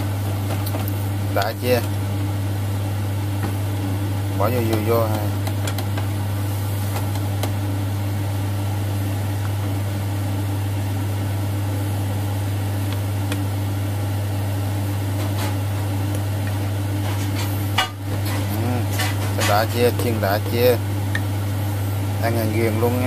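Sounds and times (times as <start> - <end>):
appliance motor hum: 0.0 - 23.0.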